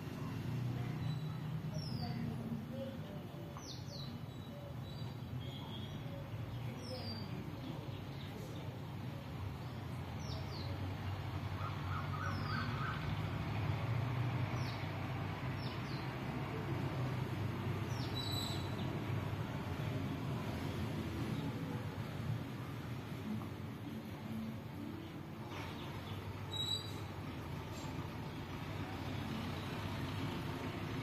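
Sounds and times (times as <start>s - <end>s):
distant traffic rumble: 0.0s - 31.0s
sparrows chirping: 0.2s - 22.2s, 24.9s - 31.0s.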